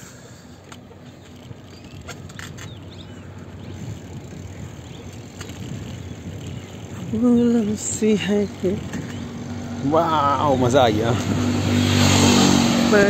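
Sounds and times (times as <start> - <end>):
bicycle tyres on concrete: 0.0 - 13.0
wind rushing over microphone: 1.5 - 13.0.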